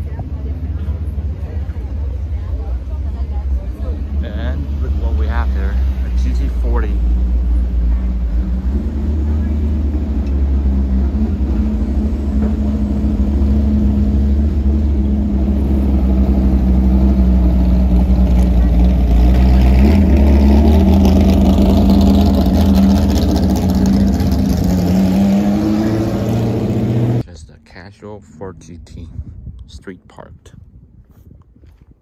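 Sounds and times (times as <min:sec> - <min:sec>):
car engine running: 0:00.0 - 0:29.1.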